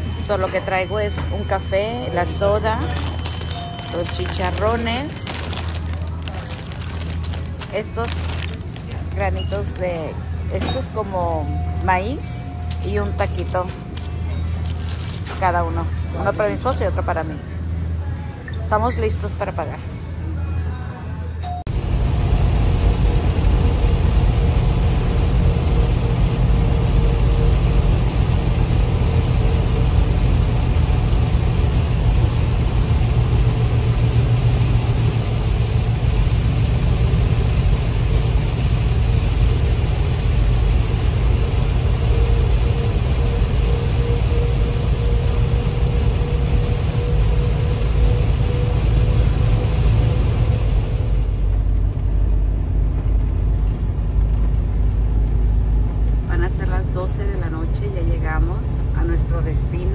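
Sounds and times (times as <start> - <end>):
road noise on wet road: 0.0 - 18.2, 21.7 - 59.9
diesel engine drone: 0.0 - 59.9.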